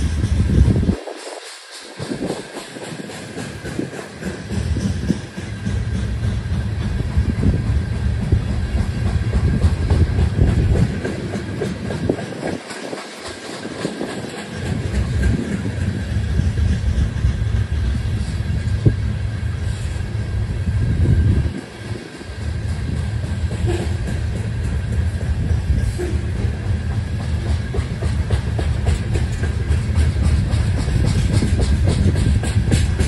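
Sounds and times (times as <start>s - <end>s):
steel wheels rumbling on rail: 0.0s - 33.0s
wheels clacking over rail joints: 0.0s - 33.0s.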